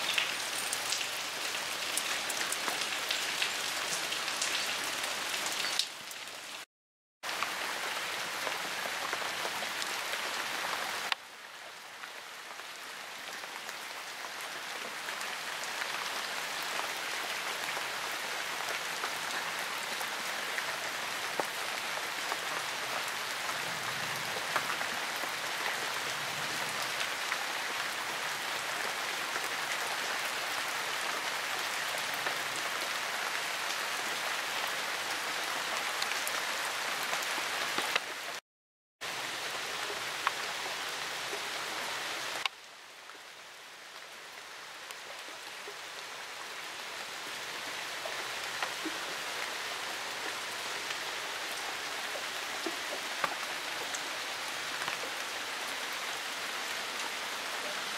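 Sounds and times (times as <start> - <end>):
steady rain falling: 0.0 - 38.4, 39.0 - 57.9.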